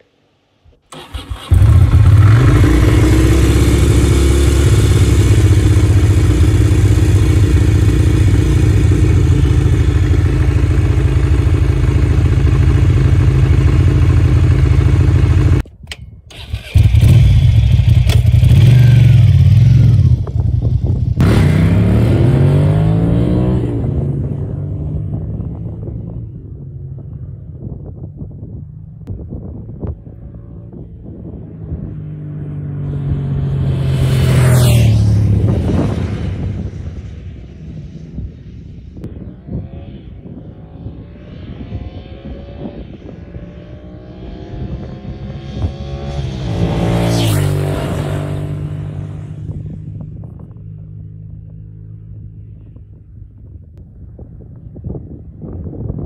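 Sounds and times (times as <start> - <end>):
motorcycle engine starting and running: 0.7 - 37.5, 39.0 - 53.2
motorcycle riding away: 0.9 - 15.6, 16.3 - 28.0, 29.7 - 52.8.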